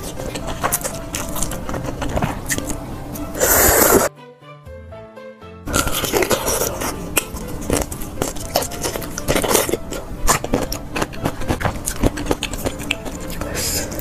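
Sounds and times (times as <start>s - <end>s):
crunchy chewing of garlic cloves: 0.0s - 4.1s, 5.7s - 14.0s.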